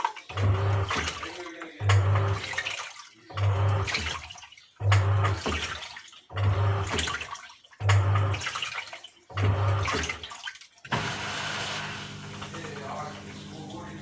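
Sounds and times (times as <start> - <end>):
running water: 0.0 - 14.0
washing machine motor hum: 0.0 - 14.0
water sloshing: 0.0 - 14.0.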